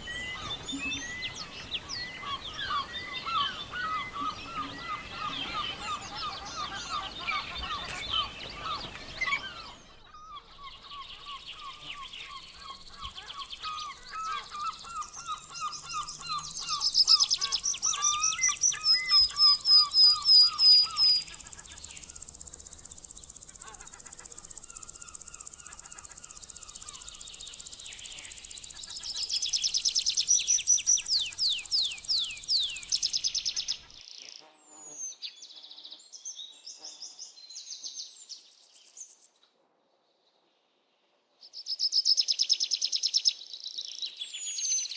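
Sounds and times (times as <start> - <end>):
small birds chirping: 0.0 - 39.4
light outdoor hiss: 0.0 - 39.5.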